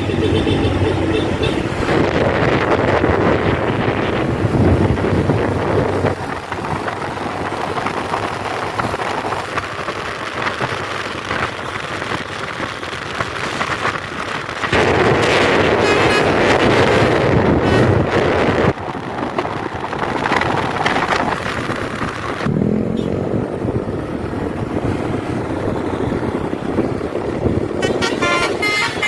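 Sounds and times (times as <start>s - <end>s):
engines and tyres rushing: 0.0s - 29.0s
wind on microphone: 0.0s - 29.0s.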